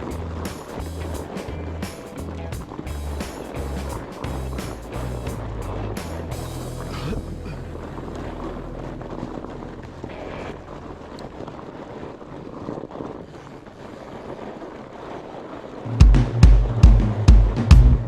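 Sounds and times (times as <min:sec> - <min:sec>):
bike tyres rolling on dirt: 0:00.0 - 0:17.2
wind buffeting microphone: 0:00.0 - 0:17.3.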